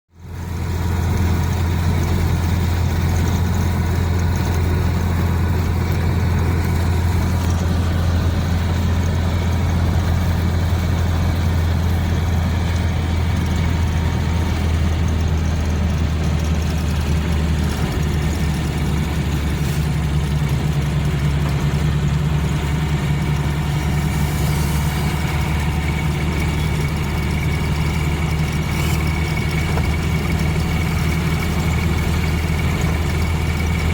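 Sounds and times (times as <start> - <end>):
low engine hum: 0.1 - 33.9.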